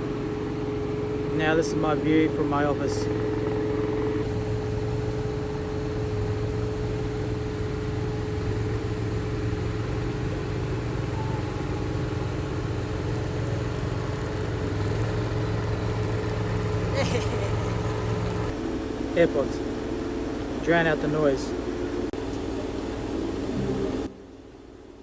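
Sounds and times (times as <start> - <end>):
machine engine droning: 0.0 - 25.0.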